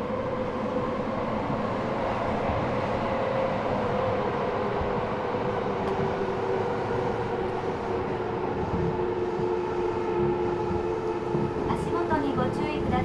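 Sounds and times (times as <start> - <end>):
rumble of train wheels: 0.0 - 13.0
subway inverter whine: 0.0 - 13.0.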